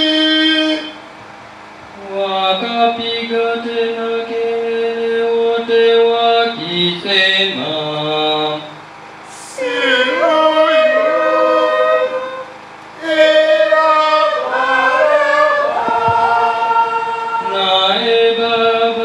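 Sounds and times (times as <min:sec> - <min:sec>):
choir chanting held notes: 0:01.9 - 0:19.0.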